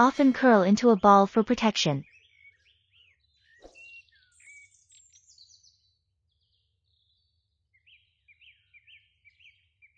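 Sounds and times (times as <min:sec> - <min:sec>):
faint birds chirping: 0:00.0 - 0:09.9.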